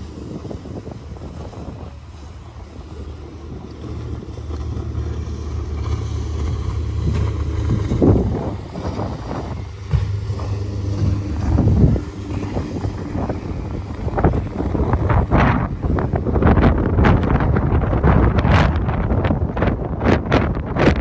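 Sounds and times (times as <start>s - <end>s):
boat engine drone: 0.0s - 21.0s
wind buffeting microphone: 0.0s - 21.0s.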